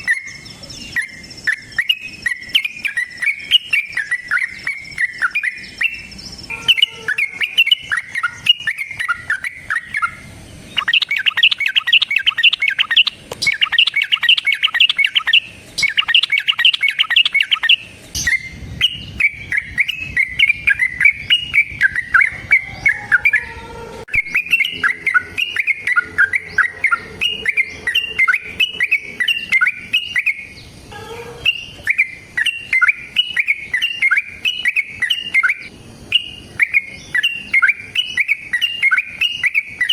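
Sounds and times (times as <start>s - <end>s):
bulbul singing bubbly phrases: 0.0s - 23.4s, 24.1s - 39.9s.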